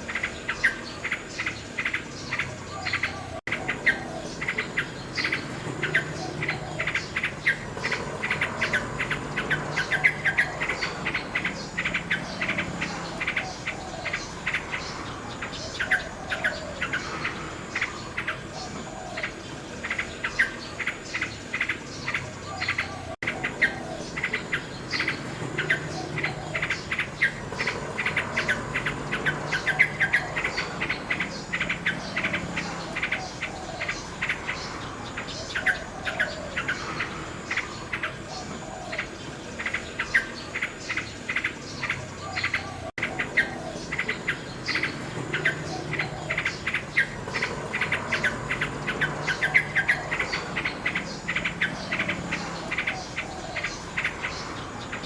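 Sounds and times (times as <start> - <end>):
insects chirping: 0.0 - 55.0
nightingale singing trills: 0.0 - 55.0.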